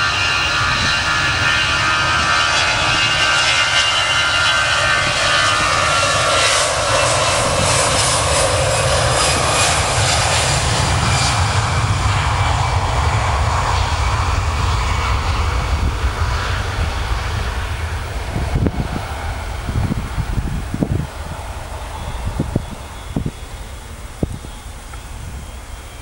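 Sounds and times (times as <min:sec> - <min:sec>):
jet engines roaring at takeoff: 0:00.0 - 0:26.0.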